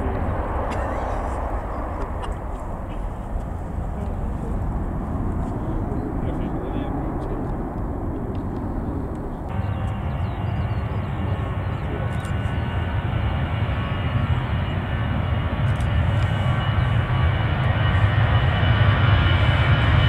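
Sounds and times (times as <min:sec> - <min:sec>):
jet engines rumbling with whine: 0:00.0 - 0:20.0.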